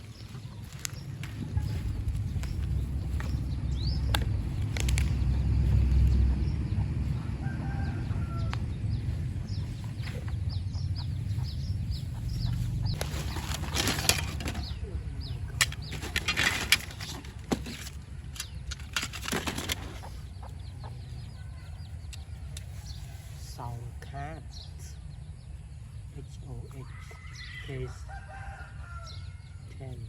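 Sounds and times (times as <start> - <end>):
steady low rumble: 0.0 - 27.0
chickens calling: 0.0 - 30.0
small birds chirping: 0.0 - 30.0.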